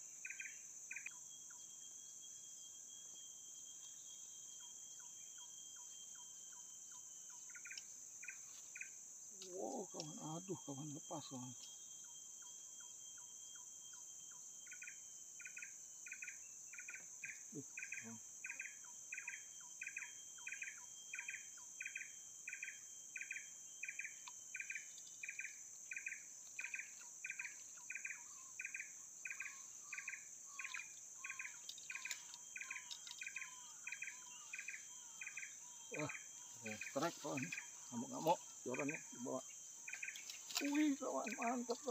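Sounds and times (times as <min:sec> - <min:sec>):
insects buzzing drone: 0:00.0 - 0:41.9.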